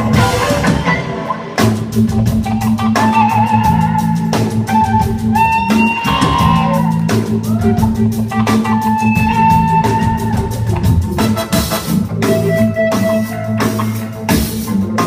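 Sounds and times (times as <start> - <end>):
bass: 0.0 - 15.0
drum kit beat: 0.0 - 15.0
electric guitar lead: 0.0 - 15.0.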